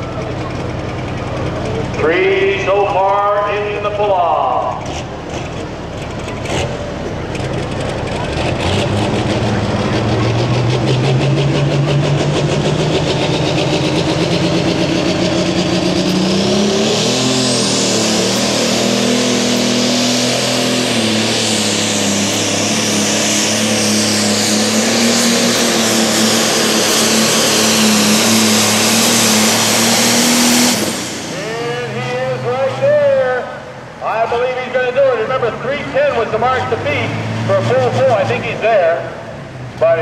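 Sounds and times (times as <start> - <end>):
high turbo whine: 0.0 - 40.0
tractor diesel engine under load: 0.0 - 40.0.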